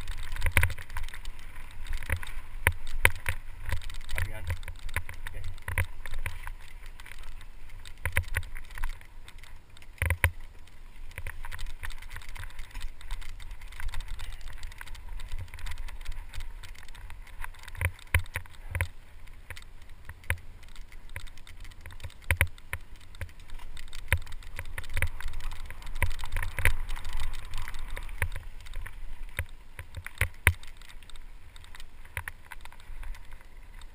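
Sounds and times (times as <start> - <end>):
bike clattering over rocks: 0.0 - 33.9
tyres on dirt: 0.0 - 33.9
wind rumbling on microphone: 0.0 - 33.9.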